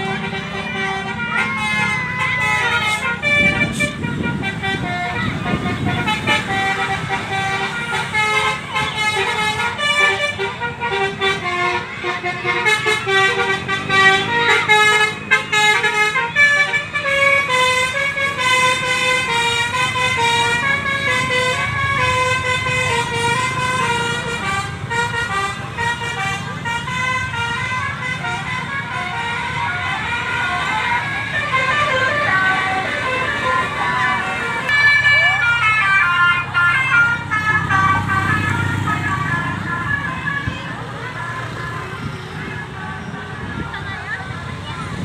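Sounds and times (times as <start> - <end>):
multi-tone musical bus horn: 0.0 - 45.0.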